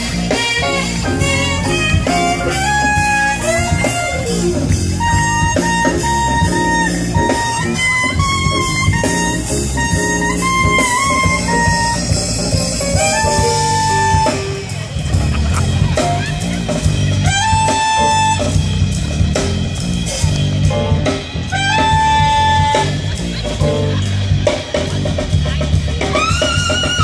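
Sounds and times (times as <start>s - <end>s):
saxophone solo: 0.0s - 15.0s, 15.9s - 19.0s, 21.0s - 23.6s, 26.0s - 27.0s
jazz band backing: 0.0s - 27.0s.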